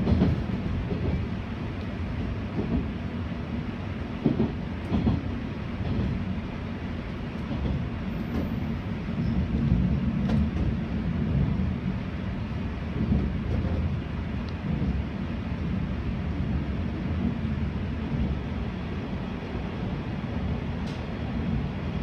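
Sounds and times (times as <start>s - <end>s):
train wheels and motors rumbling: 0.0s - 22.0s.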